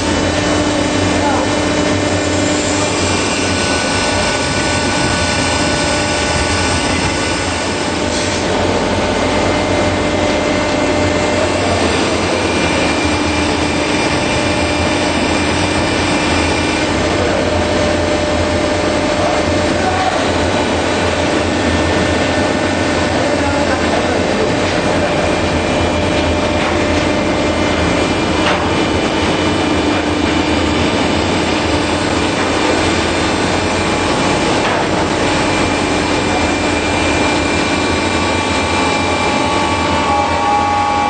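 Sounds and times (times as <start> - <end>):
baler mechanical drone: 0.0 - 41.0
machine whining tones: 0.0 - 41.0.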